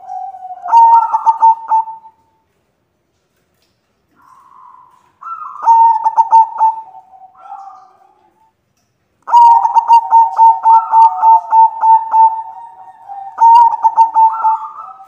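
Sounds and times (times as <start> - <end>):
dove cooing: 0.0 - 2.2, 4.2 - 8.5, 9.3 - 15.0.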